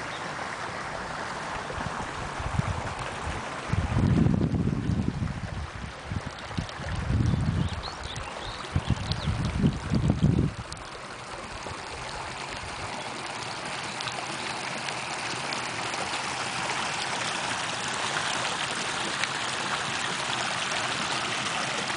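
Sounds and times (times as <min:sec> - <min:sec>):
creek water running over rocks: 0:00.0 - 0:21.9.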